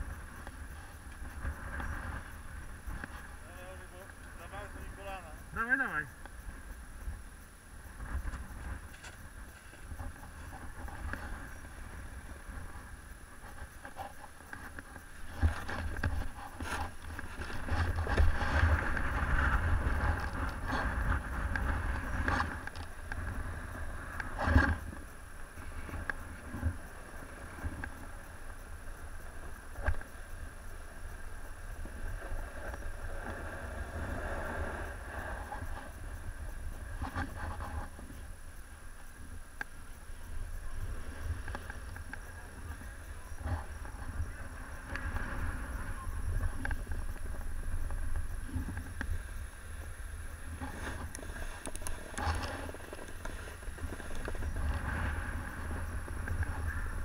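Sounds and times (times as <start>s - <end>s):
wind buffeting microphone: 0.0s - 57.0s
snowboard scraping over snow: 7.9s - 38.6s, 40.2s - 57.0s.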